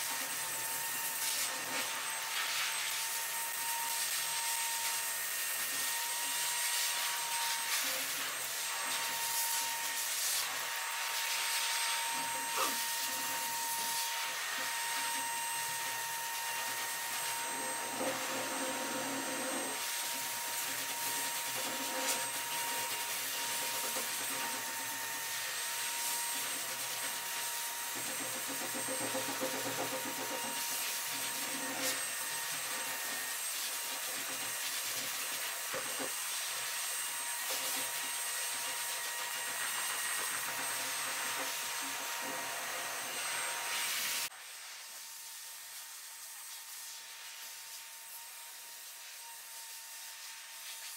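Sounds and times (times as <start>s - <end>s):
electric blower motor whirring: 0.0s - 44.3s.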